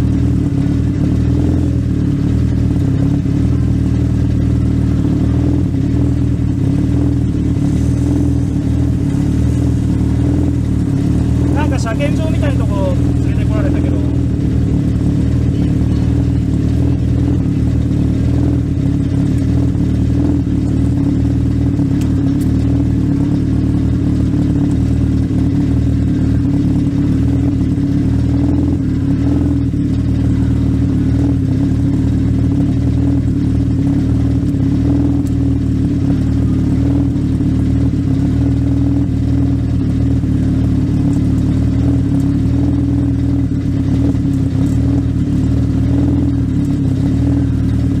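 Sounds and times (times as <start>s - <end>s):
motorcycle engine running steadily: 0.0s - 48.0s.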